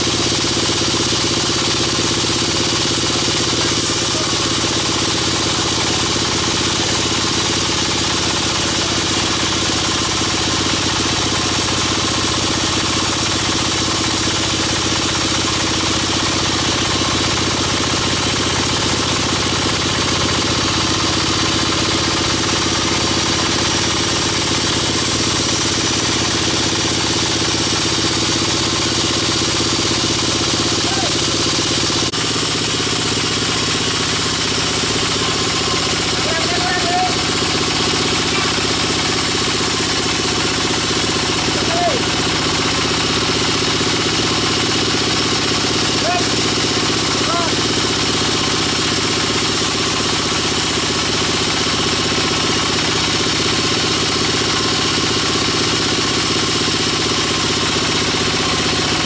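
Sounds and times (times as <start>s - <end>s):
band sawmill cutting timber: 0.0s - 59.0s.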